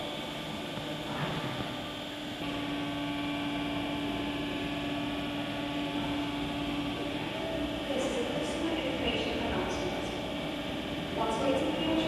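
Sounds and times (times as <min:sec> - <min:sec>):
electric train running hum: 0:00.0 - 0:12.0.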